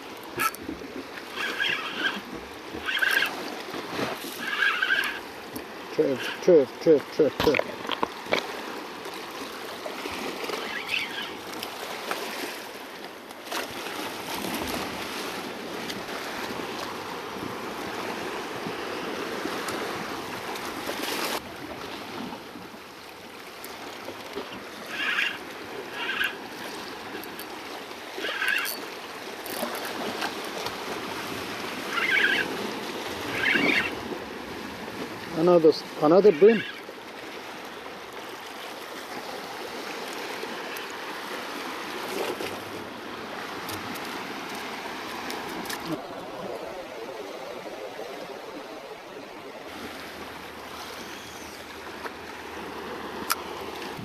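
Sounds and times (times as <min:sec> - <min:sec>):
sea waves washing against rocks: 0:00.0 - 0:54.0.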